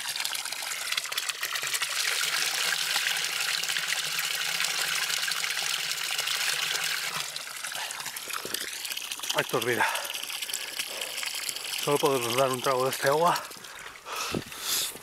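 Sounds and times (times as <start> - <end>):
water gushing from a spout: 0.0 - 15.0.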